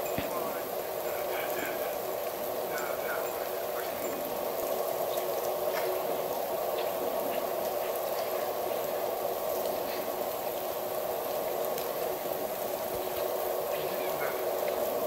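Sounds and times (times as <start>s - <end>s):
heavy rain hissing: 0.0s - 15.0s
raindrop ticks: 0.0s - 15.0s.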